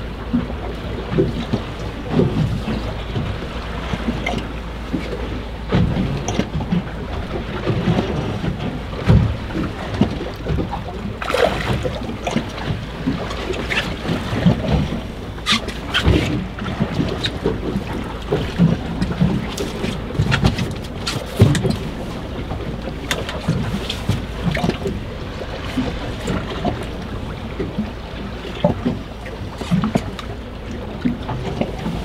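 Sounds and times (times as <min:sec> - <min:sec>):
waves slapping boat hull: 0:00.0 - 0:32.0
wind buffeting microphone: 0:00.0 - 0:32.0.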